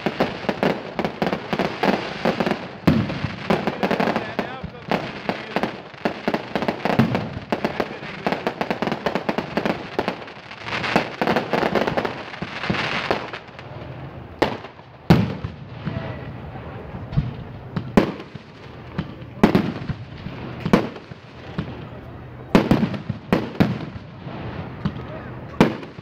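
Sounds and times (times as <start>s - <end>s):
fireworks crackling: 0.0s - 26.0s
loud firework bangs: 0.0s - 26.0s.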